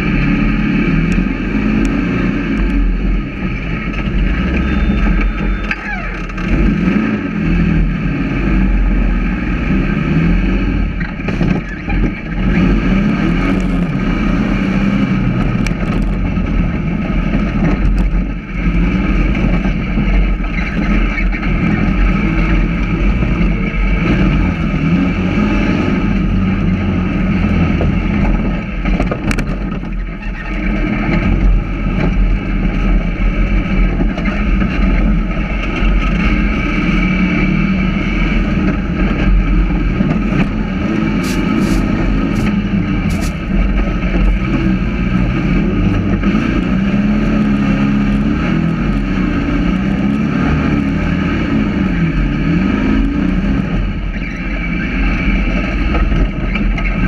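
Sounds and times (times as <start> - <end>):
engine running hard: 0.0 - 57.0.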